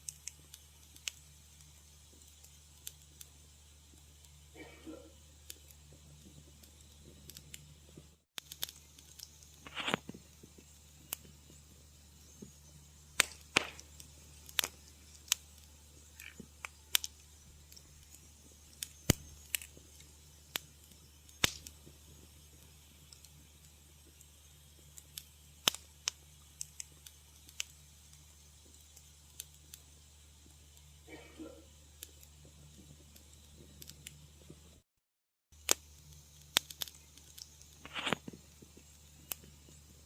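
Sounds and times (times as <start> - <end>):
fire hissing burst: 0.0 - 34.8, 35.6 - 40.0
wood fire crackling: 0.0 - 34.8, 35.6 - 40.0.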